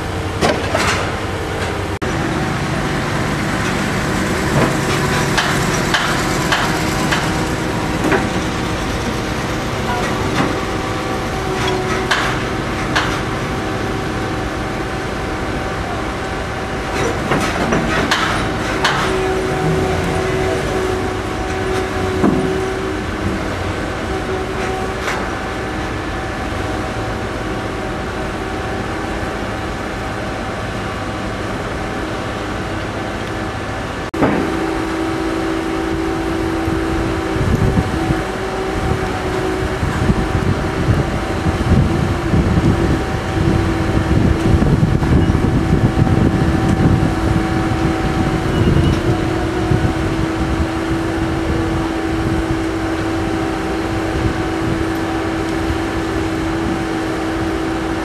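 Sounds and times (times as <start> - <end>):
diesel machinery engine hum: 0.0 - 58.0
rumbling low churn: 0.0 - 58.0.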